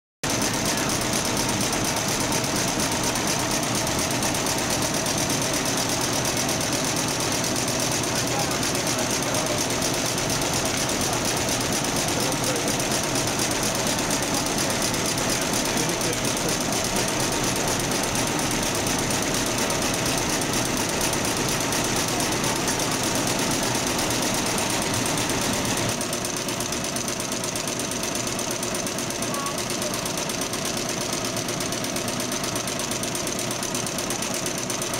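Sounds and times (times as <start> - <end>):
embroidery machine needle chatter: 0.2 - 34.9.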